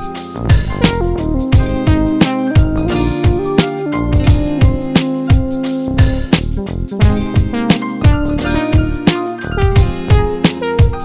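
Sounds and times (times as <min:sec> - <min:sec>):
song with guitar and drums: 0:00.0 - 0:11.0.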